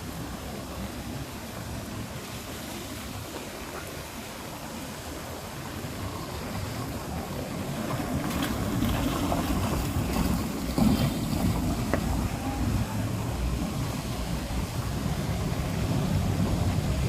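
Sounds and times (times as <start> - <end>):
tyres hissing on wet asphalt: 0.0 - 17.0
vehicle engine rumble: 0.0 - 17.0.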